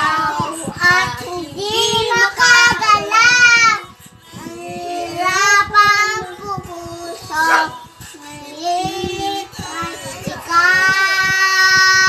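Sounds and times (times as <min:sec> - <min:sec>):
young child singing: 0:00.0 - 0:12.0.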